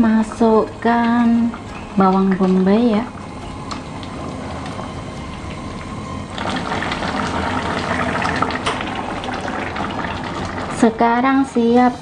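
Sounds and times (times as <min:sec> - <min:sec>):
sauce bubbling in a pan: 0:00.0 - 0:11.2.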